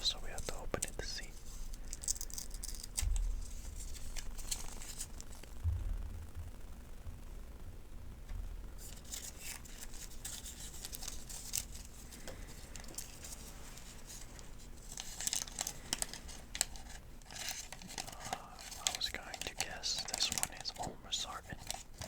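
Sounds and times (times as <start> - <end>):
paper crinkling: 0.0 - 5.6, 8.8 - 22.0.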